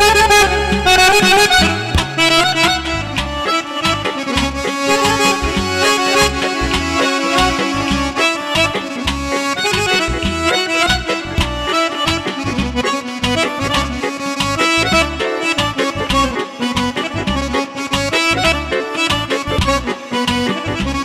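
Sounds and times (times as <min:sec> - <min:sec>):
drum kit beat: 0:00.0 - 0:19.9
accordion playing quick melody: 0:00.0 - 0:21.0.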